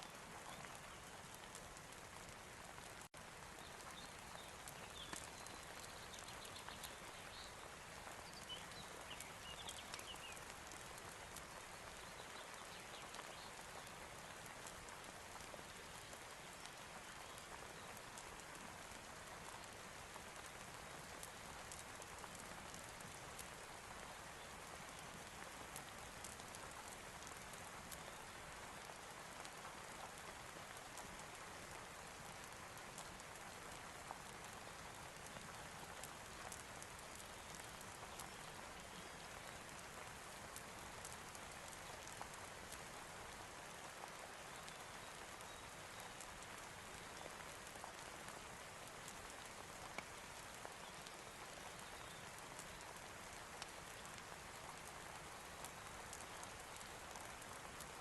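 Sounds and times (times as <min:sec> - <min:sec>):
soft steady rain: 0:00.0 - 0:58.0.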